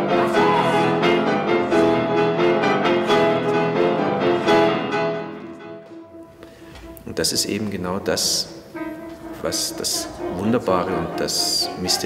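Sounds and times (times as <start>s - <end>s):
grand piano chords: 0.0s - 12.0s.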